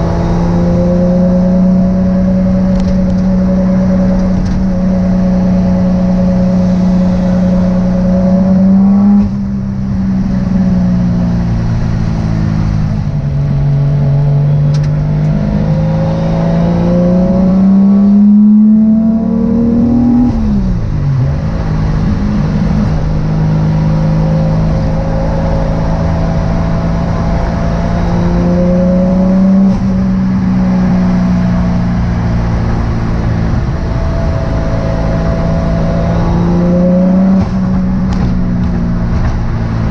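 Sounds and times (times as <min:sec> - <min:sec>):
car engine accelerating and shifting: 0:00.0 - 0:39.9.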